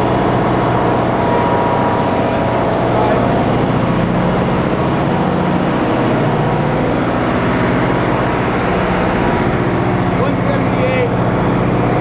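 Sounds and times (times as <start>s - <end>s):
diesel generators droning: 0.0s - 12.0s.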